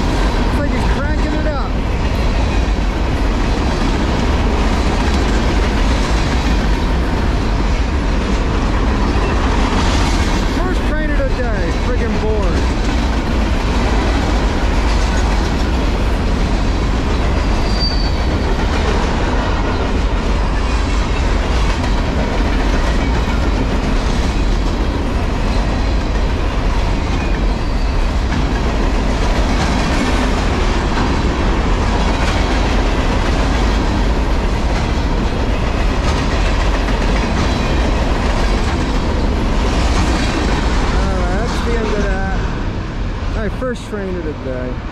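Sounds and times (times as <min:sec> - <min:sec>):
steel wheels running on rails: 0:00.0 - 0:44.9.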